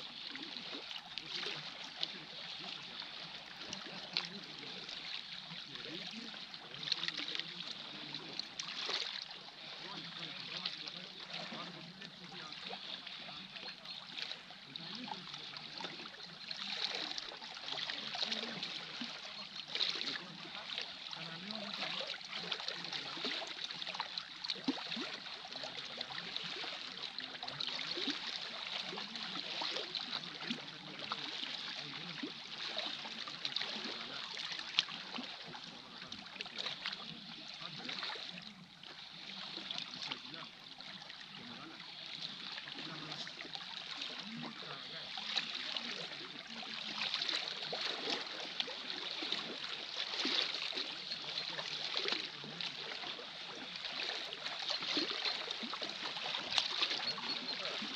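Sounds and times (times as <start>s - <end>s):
small waves lapping on rocks: 0.0s - 57.9s.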